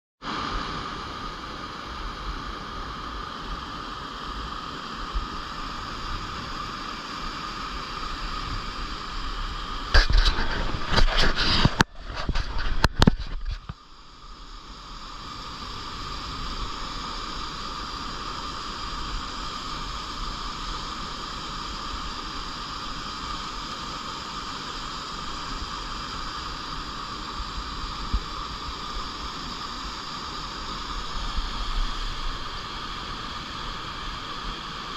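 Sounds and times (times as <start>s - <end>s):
stream flowing: 0.2s - 34.9s.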